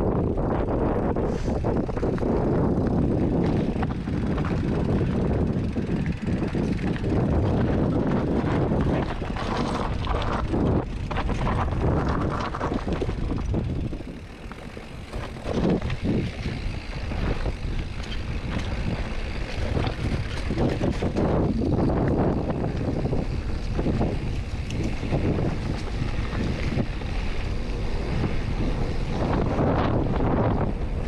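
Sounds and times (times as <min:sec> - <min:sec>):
wind rumbling on microphone: 0:00.0 - 0:31.0
bike clattering: 0:00.5 - 0:31.0
tyres rolling over dirt: 0:01.7 - 0:31.0.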